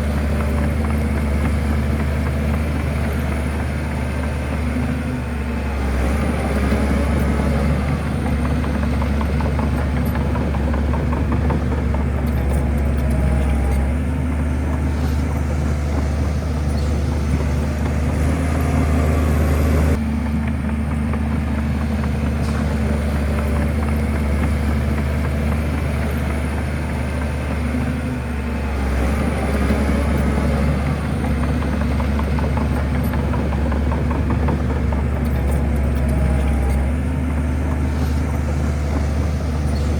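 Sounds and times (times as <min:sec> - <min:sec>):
bulldozer diesel engine humming: 0:00.0 - 0:39.9.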